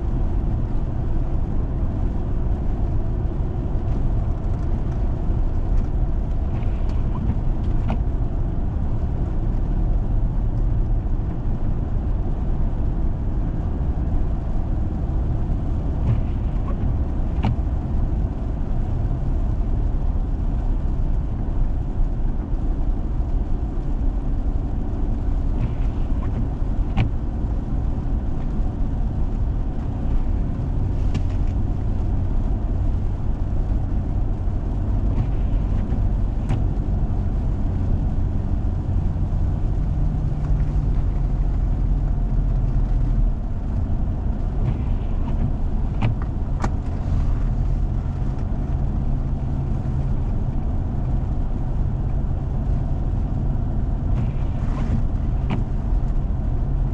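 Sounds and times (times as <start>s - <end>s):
vehicle engine and road drone: 0.0s - 56.9s.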